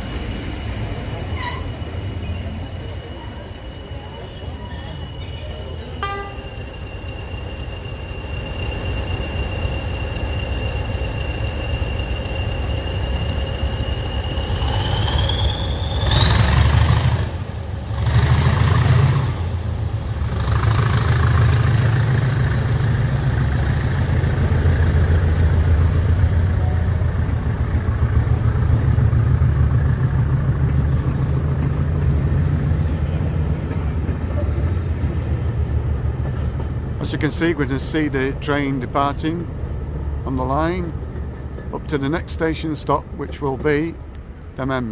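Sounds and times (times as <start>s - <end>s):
train heavy low rumble: 0.0s - 44.9s.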